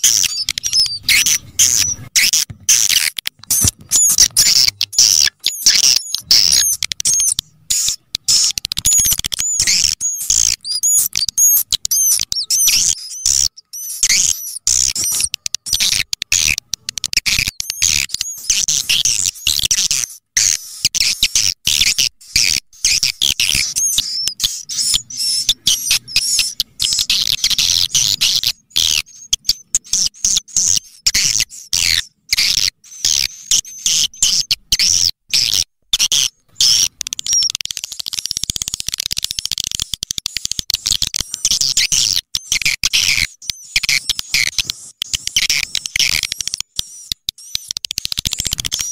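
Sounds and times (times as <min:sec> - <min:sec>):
high-pitched twittering chirps: 0:00.0 - 0:48.9.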